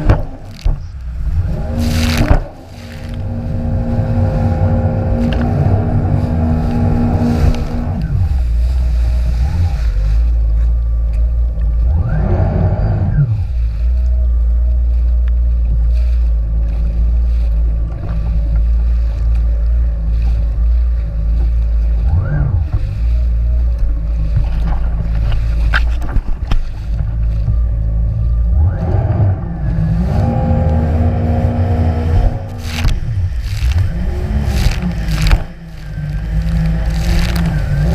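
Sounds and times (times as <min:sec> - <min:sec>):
jet ski engine rumbling: 0:00.0 - 0:37.9.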